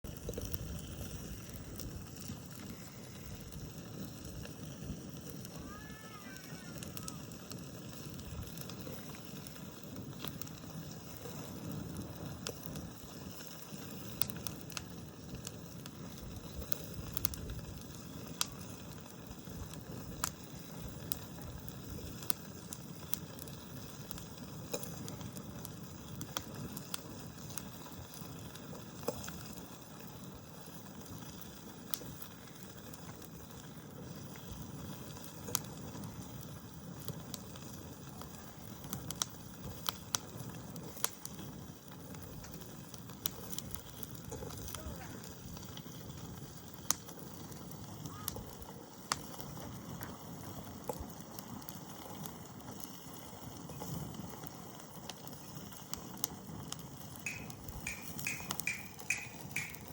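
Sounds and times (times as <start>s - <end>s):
fire crackling and popping: 0.0s - 59.9s
low rush of flames: 0.0s - 59.9s.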